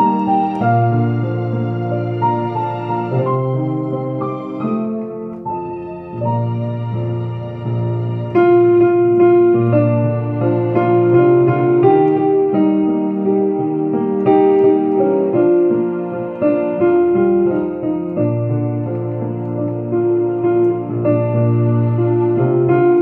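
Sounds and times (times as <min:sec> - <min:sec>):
digital piano playing chords: 0:00.0 - 0:23.0.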